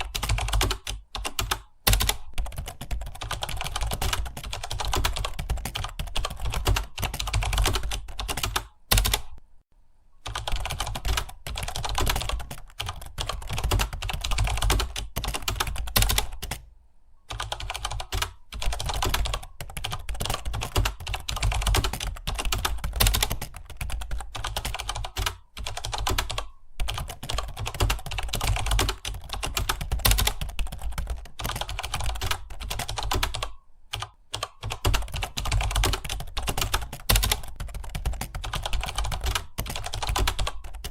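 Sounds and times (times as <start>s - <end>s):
typing on computer keyboard: 0.0s - 9.4s, 10.2s - 16.6s, 17.3s - 40.9s.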